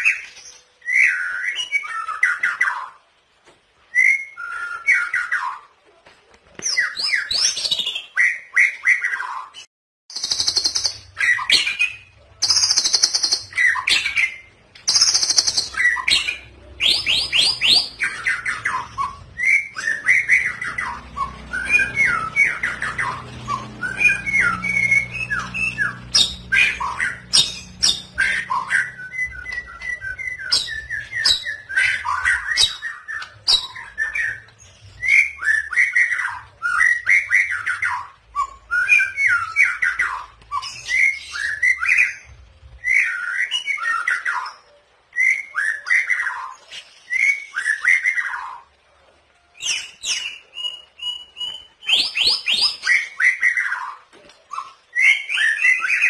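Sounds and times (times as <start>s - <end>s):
bird singing whistled phrases: 0.0s - 3.0s, 3.9s - 5.7s, 10.2s - 48.7s, 49.6s - 56.0s.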